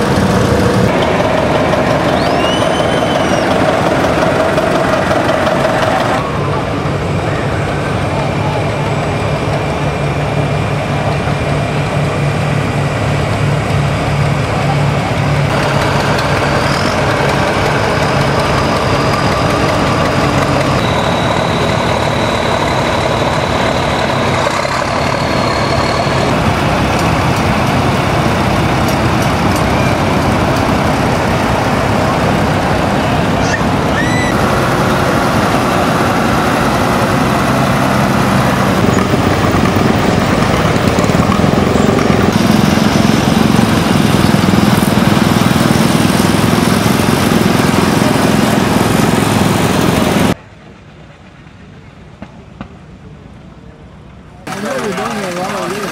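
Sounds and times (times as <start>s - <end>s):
tractor engines driving past: 0.0s - 55.9s.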